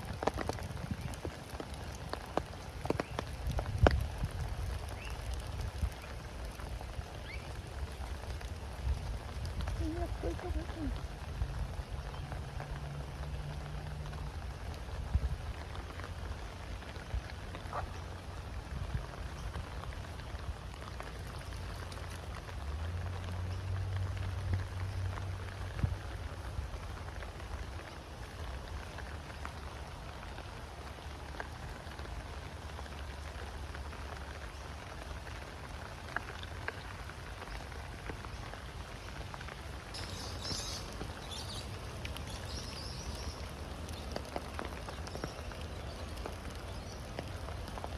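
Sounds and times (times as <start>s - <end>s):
raindrops ticking: 0.0s - 47.9s
steady rain falling: 0.0s - 47.9s.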